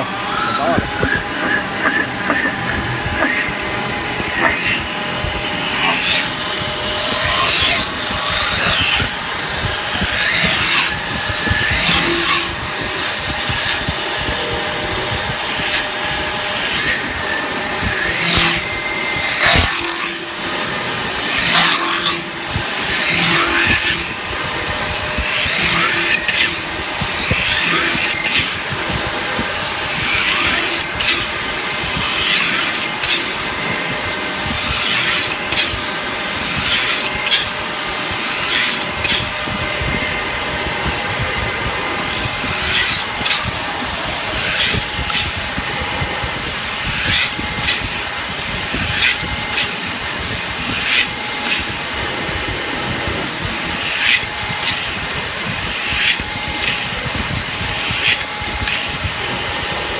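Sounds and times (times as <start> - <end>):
metal spinning machine whine: 0.0 - 59.9.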